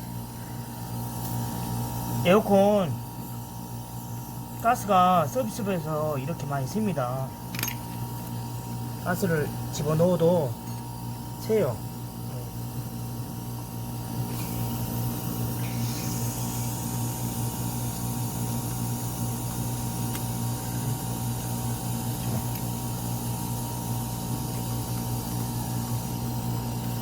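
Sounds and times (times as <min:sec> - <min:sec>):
air conditioner unit humming: 0:00.0 - 0:27.0
refrigerant hissing from leak: 0:00.0 - 0:27.0.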